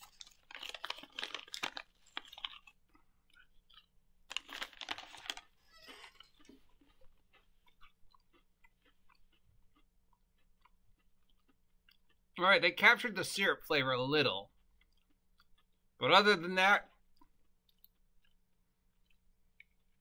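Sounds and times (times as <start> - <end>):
person chewing crunchy chips: 0.0 - 12.4, 14.4 - 20.0.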